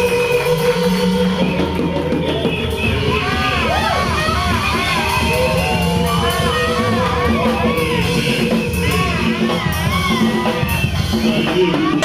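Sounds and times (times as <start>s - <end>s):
congregation singing and calling out: 0.0s - 12.0s
loud band music: 0.0s - 12.0s.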